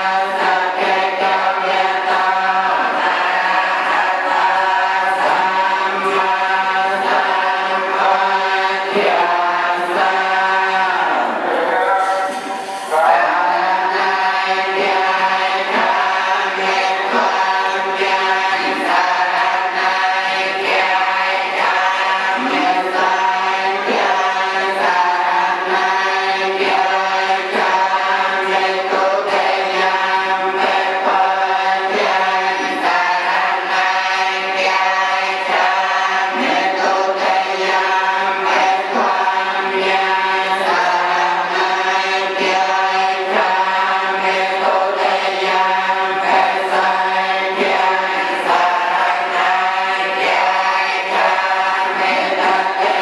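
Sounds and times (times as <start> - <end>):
many voices chanting: 0.0 - 53.0.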